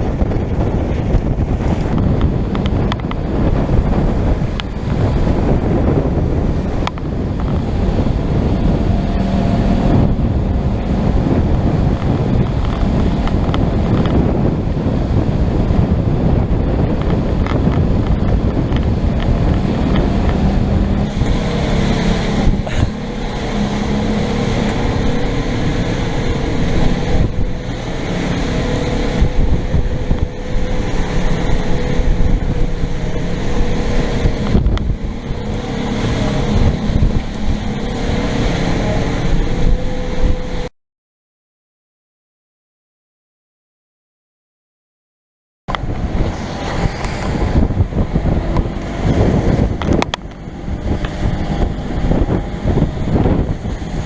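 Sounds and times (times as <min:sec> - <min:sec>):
motorboat engine running: 0:00.0 - 0:40.7, 0:45.7 - 0:54.0
wind buffeting microphone: 0:00.0 - 0:40.7, 0:45.7 - 0:54.0.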